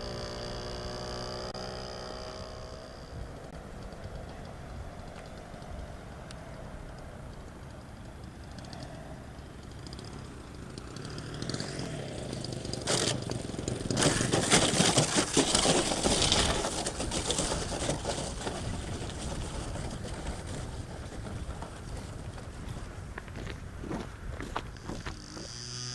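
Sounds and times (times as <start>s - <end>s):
model airplane motor flying past: 0.0s - 25.9s.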